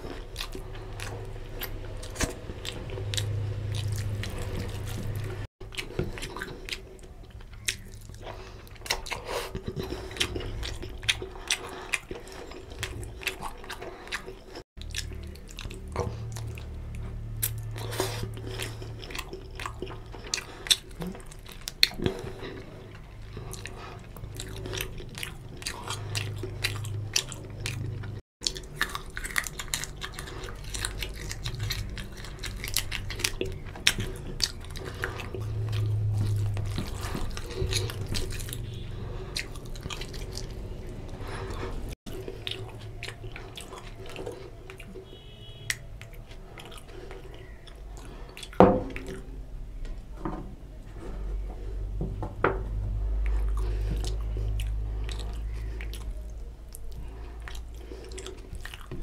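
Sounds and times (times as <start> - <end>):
chewing and biting food: 0.0 - 49.4, 52.9 - 59.0.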